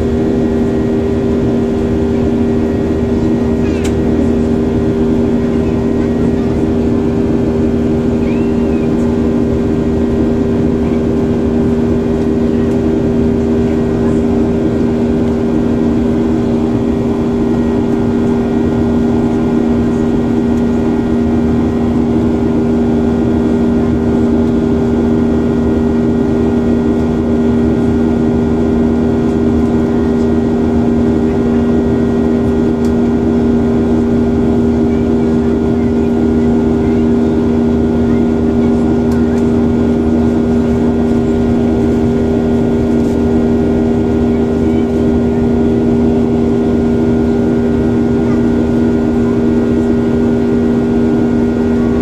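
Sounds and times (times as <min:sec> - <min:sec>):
airliner engines droning in cabin: 0:00.0 - 0:52.0.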